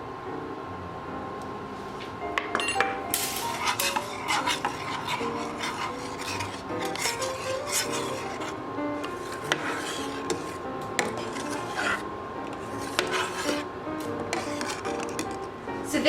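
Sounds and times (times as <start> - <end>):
background music: 0.2 - 16.0
spoon scraping a pot: 2.6 - 15.5.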